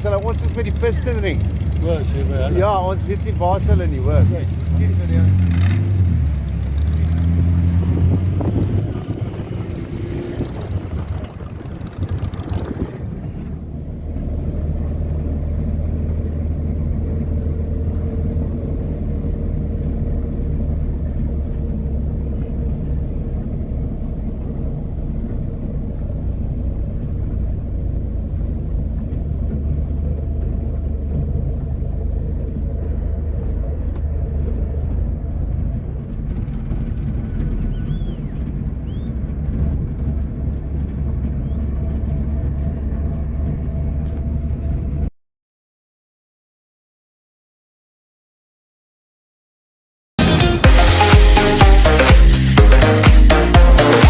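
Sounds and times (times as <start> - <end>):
car engine droning: 0.0 - 45.1, 50.2 - 54.0.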